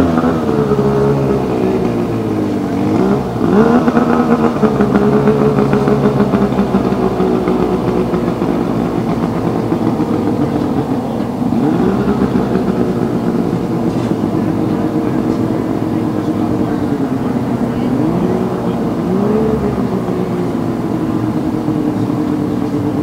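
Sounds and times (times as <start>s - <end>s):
racing boat engines whining: 0.0s - 23.0s.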